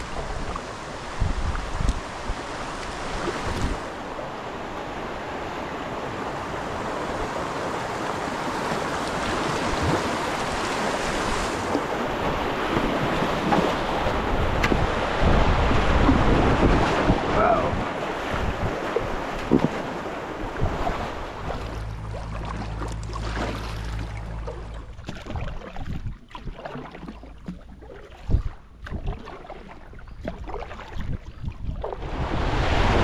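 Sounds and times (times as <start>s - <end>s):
wind buffeting microphone: 0.0s - 4.0s, 9.2s - 29.3s, 30.0s - 33.0s.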